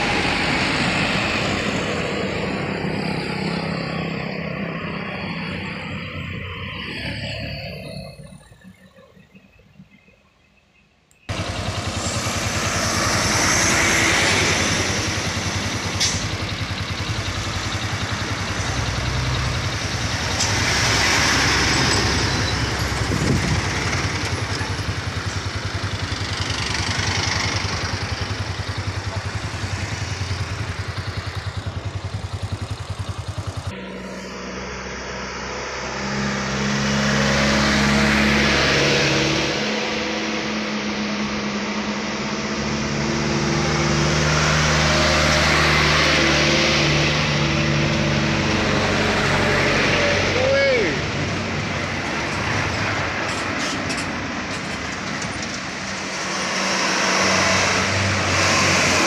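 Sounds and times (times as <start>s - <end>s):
truck diesel engines labouring: 0.0s - 10.4s, 11.1s - 59.0s.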